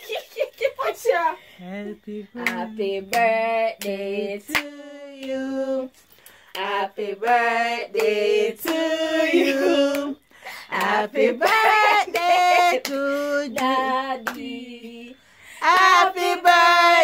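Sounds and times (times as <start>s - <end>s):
woman singing slow melody: 1.6s - 17.0s.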